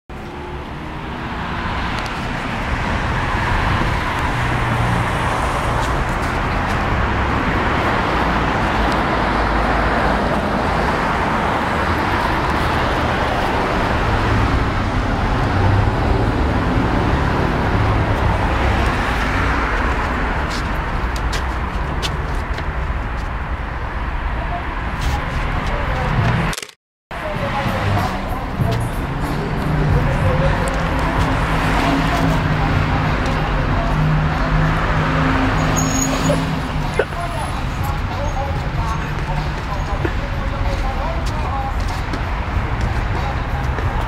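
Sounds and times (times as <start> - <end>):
cars driving past: 0.1 - 26.5, 27.2 - 44.0.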